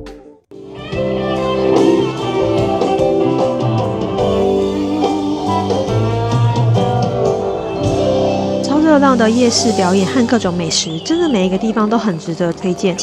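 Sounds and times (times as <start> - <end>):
guitar music with plucked notes: 0.6 - 11.0.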